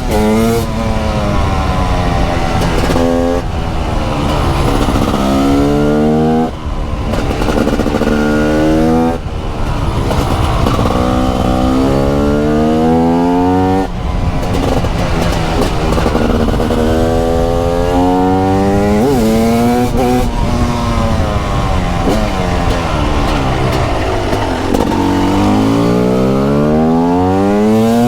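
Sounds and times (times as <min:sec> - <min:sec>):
two-stroke motorcycle accelerating: 0:00.0 - 0:28.0.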